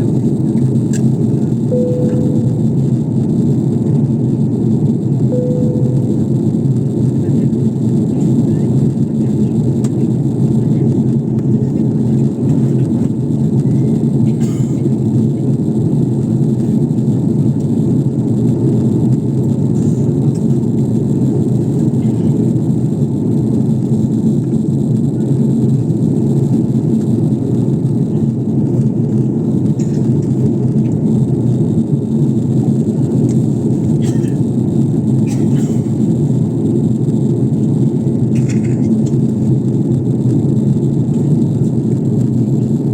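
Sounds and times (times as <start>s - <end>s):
airflow noise in cabin: 0.0s - 42.9s
airliner engines rumbling: 0.0s - 42.9s.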